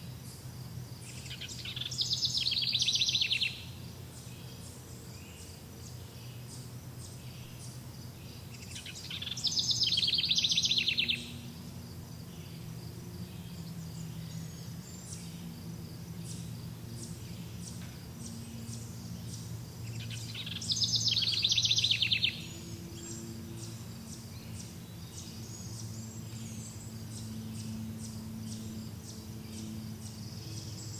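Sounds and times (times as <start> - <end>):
faint high bird chirps: 1.0 - 11.5, 16.2 - 30.9
songbird trilling: 1.0 - 11.6, 16.2 - 30.9.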